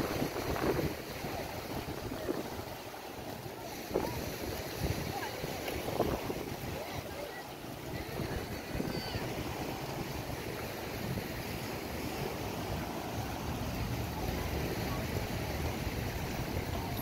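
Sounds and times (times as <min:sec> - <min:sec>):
faint voices: 0:00.0 - 0:17.0
small surf washing: 0:00.0 - 0:17.0
wind on microphone: 0:00.0 - 0:17.0.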